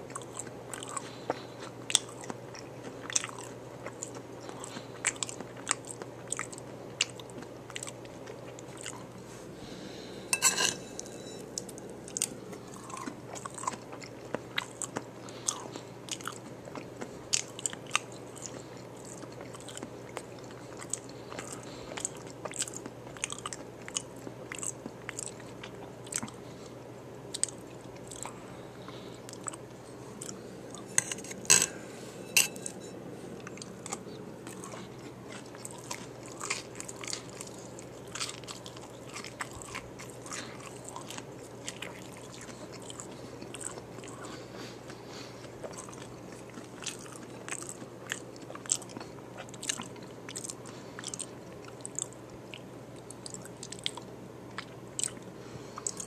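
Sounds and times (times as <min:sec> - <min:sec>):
chewing and biting: 0:00.0 - 0:09.2, 0:10.9 - 0:31.5, 0:33.4 - 0:56.0.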